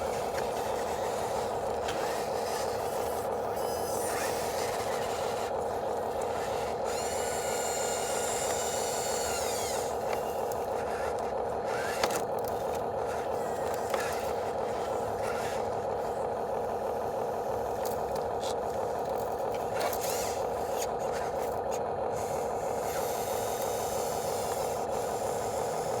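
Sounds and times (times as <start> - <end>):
high motor whine: 0.0 - 26.0
whir of small electric motors: 0.0 - 26.0.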